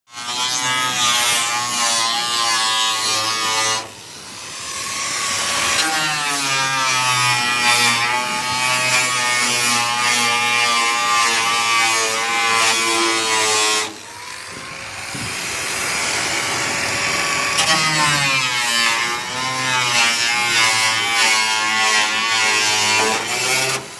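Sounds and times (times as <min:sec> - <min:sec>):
power tool motor buzzing: 0:00.1 - 0:23.9.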